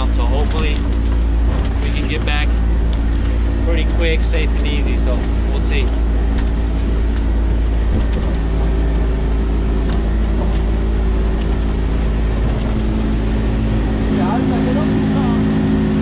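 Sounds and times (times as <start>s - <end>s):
boat rushing over water: 0.0s - 16.0s
outboard motor running: 0.0s - 16.0s.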